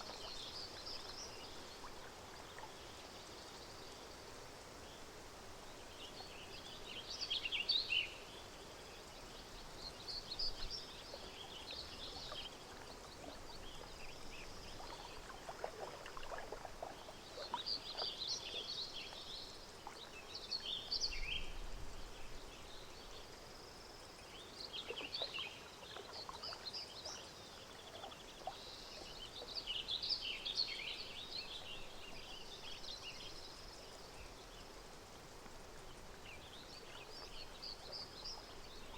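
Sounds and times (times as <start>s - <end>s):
gently moving water: 0.0s - 7.0s, 9.6s - 23.6s, 24.2s - 38.9s
small birds chirping: 5.7s - 38.9s.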